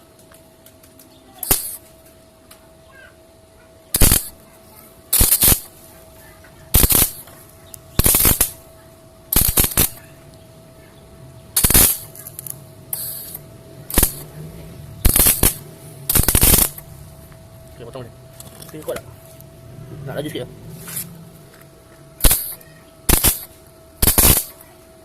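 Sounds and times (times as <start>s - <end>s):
arc welder crackling: 0.0s - 2.7s, 3.9s - 19.6s, 20.2s - 24.9s.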